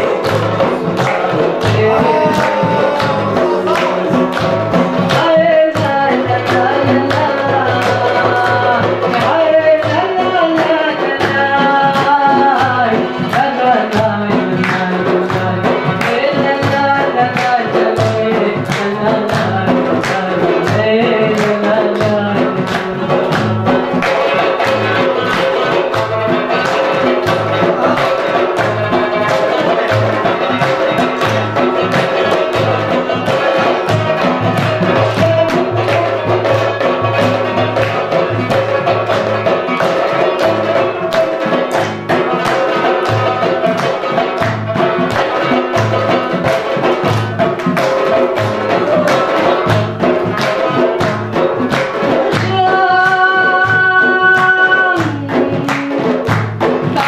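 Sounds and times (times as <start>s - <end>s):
folk singing: 0.0s - 57.0s
steady percussive beat: 0.0s - 57.0s.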